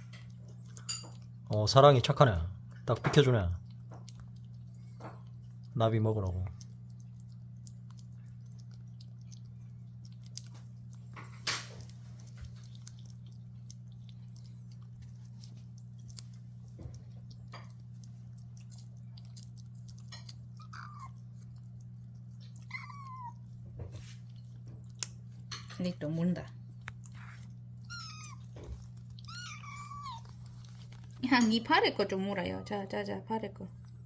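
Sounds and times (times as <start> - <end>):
cat crunching food: 0.0 - 32.0, 33.7 - 34.0
steady low hum: 0.0 - 34.0.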